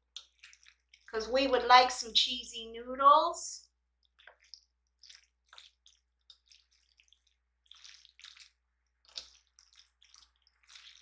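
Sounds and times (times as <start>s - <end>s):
wet squelches of noodles: 0.0s - 1.6s, 3.6s - 11.0s.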